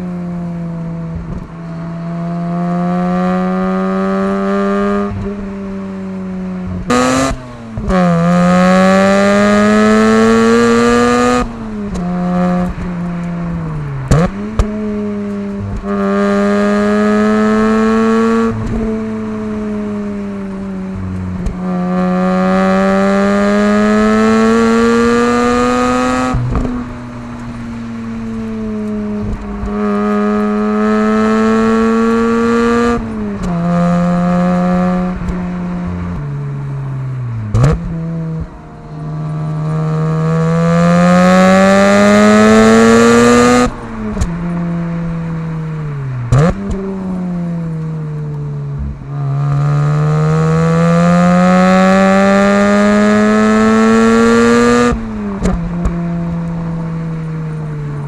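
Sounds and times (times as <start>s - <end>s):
rotary engine exhaust revving: 6.6s - 58.0s.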